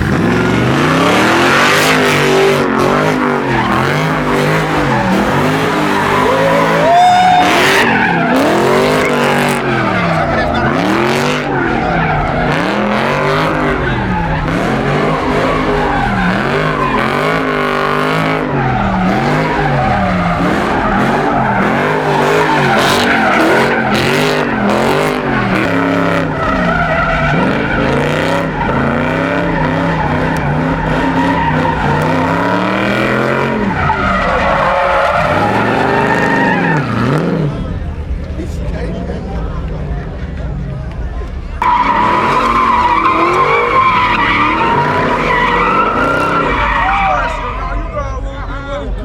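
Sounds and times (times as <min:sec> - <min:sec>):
car engine revving: 0:00.0 - 0:49.0
tires screeching: 0:00.0 - 0:49.0.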